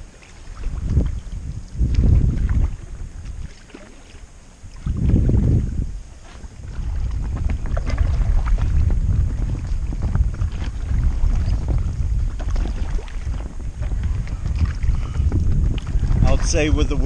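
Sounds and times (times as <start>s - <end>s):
paddle splashes and drips: 0.0s - 16.4s
wind buffeting microphone: 0.0s - 17.0s.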